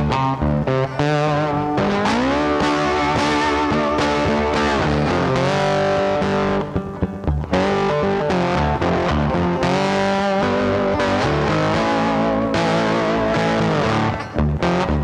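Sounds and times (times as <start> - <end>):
guitar-led instrumental music: 0.0 - 15.0.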